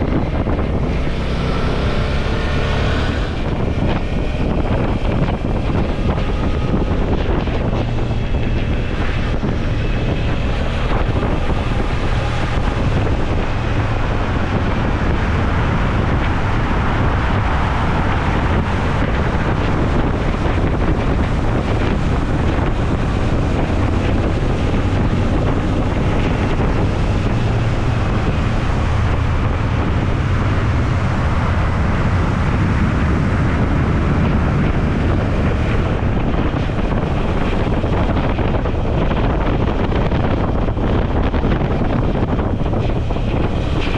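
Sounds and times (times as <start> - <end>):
motorcycle engine drone: 0.0 - 43.9
wind buffeting microphone: 0.0 - 43.9.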